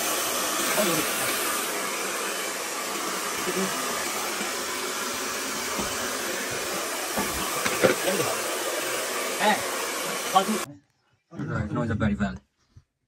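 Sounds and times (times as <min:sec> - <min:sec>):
blower motor running: 0:00.0 - 0:10.7.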